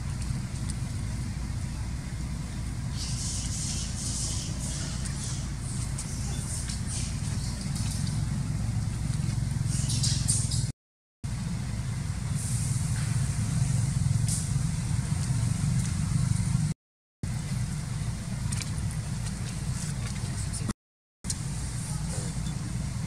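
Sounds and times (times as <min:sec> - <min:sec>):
low background rumble: 0:00.0 - 0:10.7, 0:11.3 - 0:20.7, 0:21.3 - 0:23.0.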